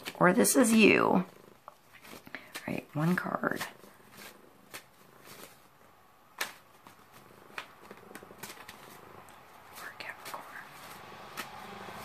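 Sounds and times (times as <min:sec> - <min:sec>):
cards shuffling: 0:00.0 - 0:12.0.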